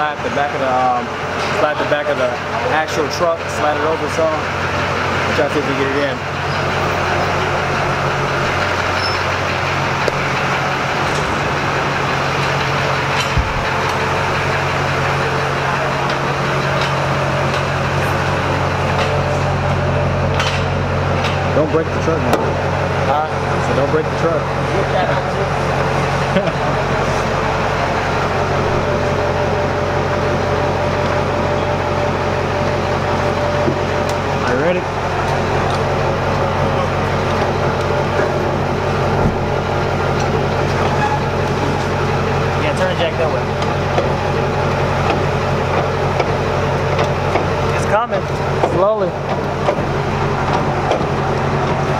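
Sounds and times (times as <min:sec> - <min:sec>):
diesel engine idling: 0:00.0 - 0:51.9
machine humming drone: 0:00.0 - 0:51.9
thin steady whine: 0:00.0 - 0:51.9.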